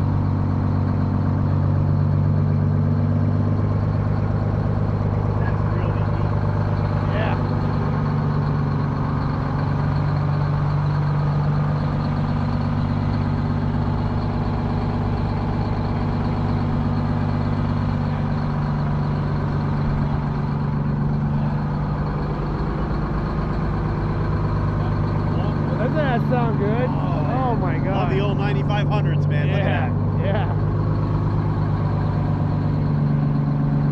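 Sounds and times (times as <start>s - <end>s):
diesel truck engines idling: 0.0s - 33.9s.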